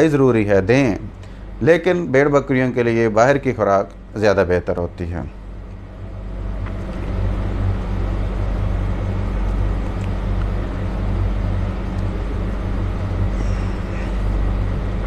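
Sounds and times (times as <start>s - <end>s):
low motor rumble: 0.0s - 15.0s.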